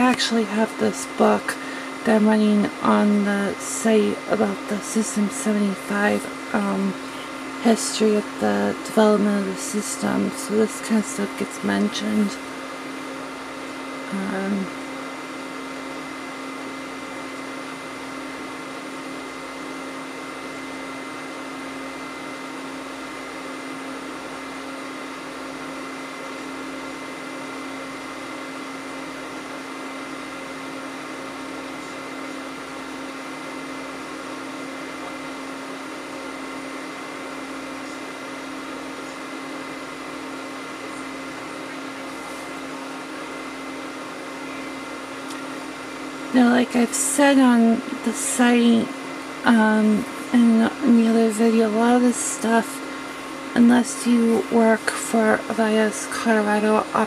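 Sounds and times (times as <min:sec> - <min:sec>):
electronic equipment hum: 0:00.0 - 0:57.0
whirring fan: 0:00.0 - 0:57.0.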